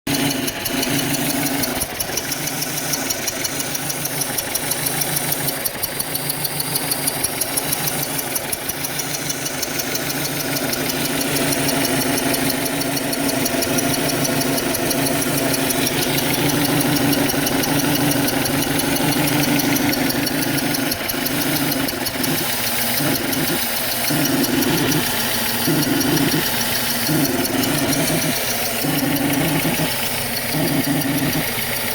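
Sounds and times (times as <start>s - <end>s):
car engine idling unevenly: 0.0s - 31.9s.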